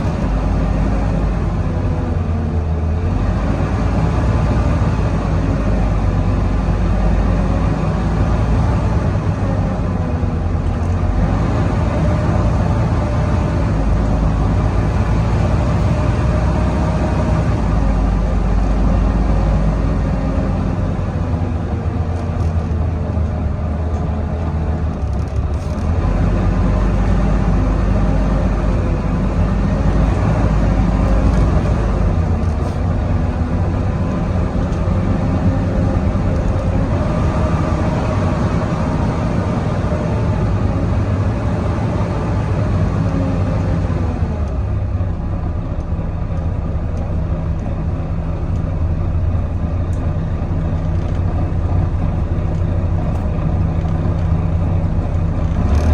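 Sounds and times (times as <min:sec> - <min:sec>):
bus diesel engine rumble: 0:00.0 - 0:55.9
high whistling engine whine: 0:00.0 - 0:55.9.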